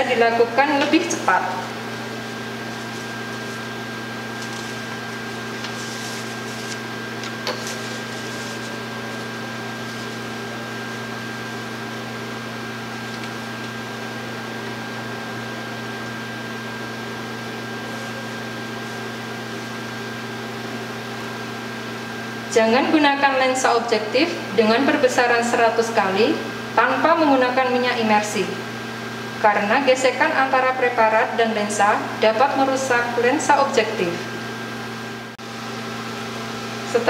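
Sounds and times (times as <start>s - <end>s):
machine hum with high whine: 0.0s - 37.0s.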